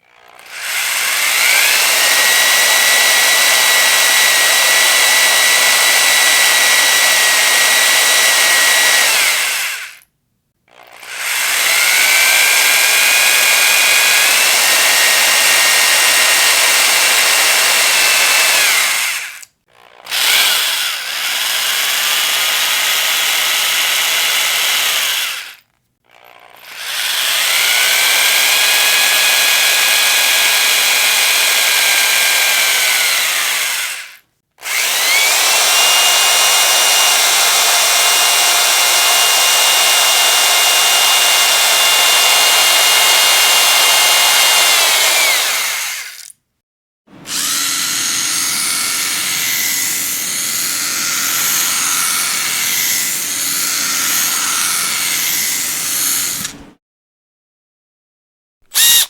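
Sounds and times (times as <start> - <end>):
power drill whining: 0.0 - 10.1, 10.7 - 46.4, 47.1 - 56.8, 58.7 - 59.0.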